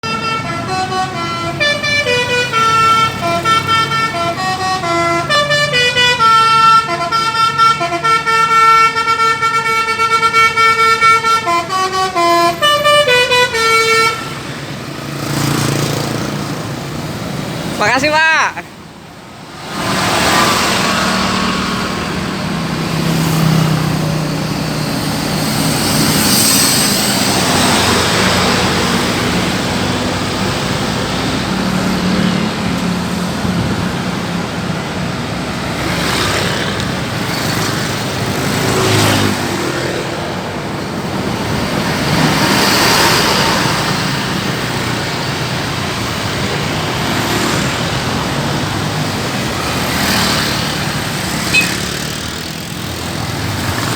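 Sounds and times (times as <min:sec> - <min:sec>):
vehicles driving past: 0:00.0 - 0:53.9.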